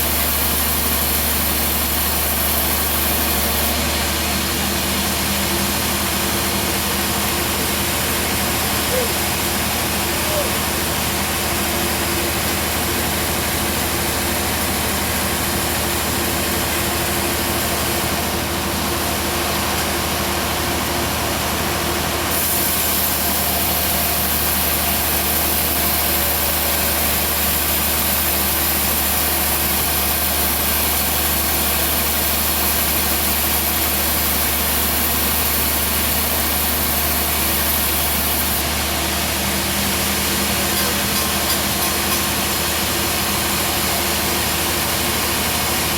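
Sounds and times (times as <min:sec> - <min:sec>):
sawmill engine droning: 0:00.0 - 0:45.9.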